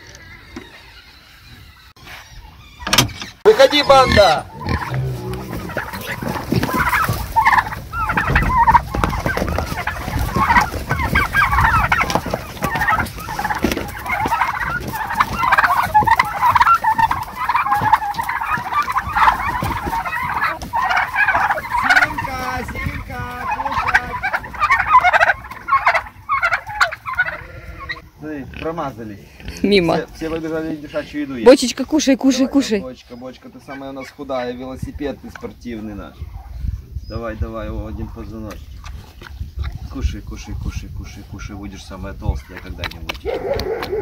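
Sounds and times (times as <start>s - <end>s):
farm animals squealing and calling: 0.0s - 44.0s.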